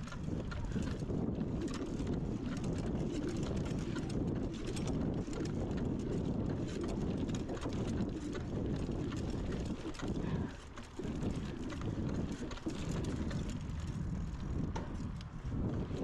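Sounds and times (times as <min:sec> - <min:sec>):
bike clicks and rattles: 0:00.0 - 0:16.0
bike tyre rumble: 0:00.0 - 0:16.0
wind rush on microphone: 0:00.0 - 0:16.0.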